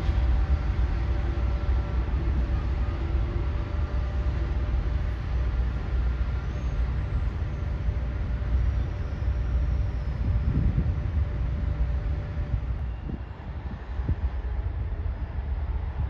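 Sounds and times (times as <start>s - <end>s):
faint steady tones: 0.0s - 16.0s
train rumbling: 0.0s - 16.0s.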